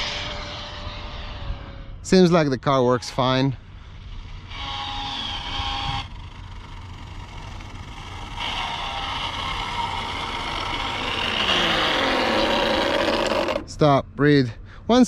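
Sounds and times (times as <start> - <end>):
electric motor whine: 0.0 - 2.1, 3.0 - 13.7.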